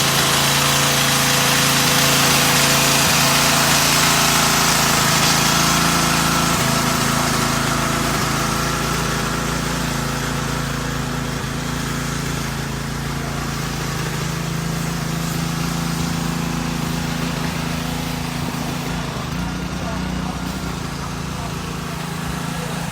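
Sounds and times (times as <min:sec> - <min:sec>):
car wash hiss: 0:00.0 - 0:22.9
car wash motor hum: 0:00.0 - 0:22.9.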